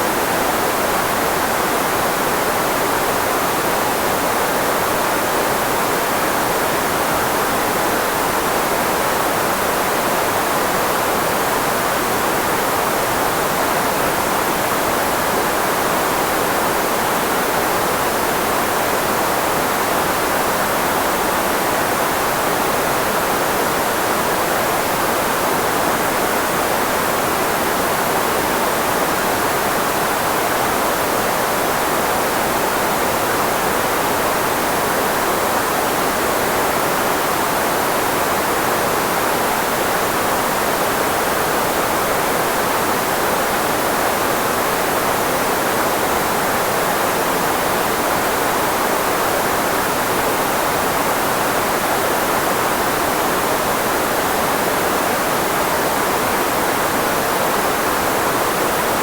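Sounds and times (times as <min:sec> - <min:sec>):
filtered white noise hiss: 0:00.0 - 0:59.0.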